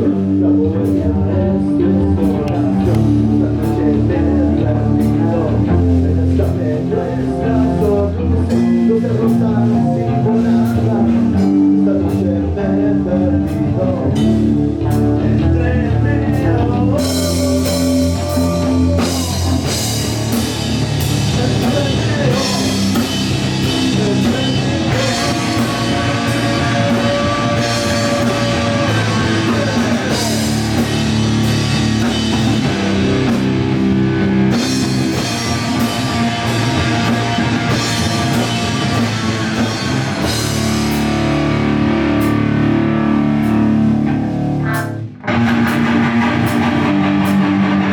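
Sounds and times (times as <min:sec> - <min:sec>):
heavy metal band playing: 0:00.0 - 0:47.9.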